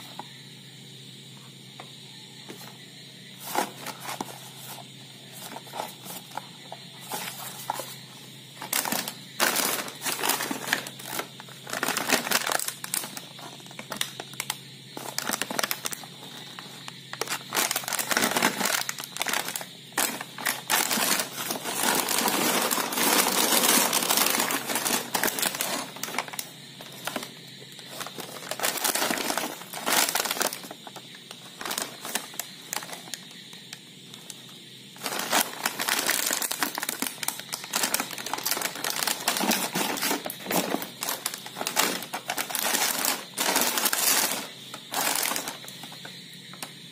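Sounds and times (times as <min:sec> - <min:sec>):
plastic snack packets crinkling: 0:03.4 - 0:33.3, 0:35.0 - 0:46.7.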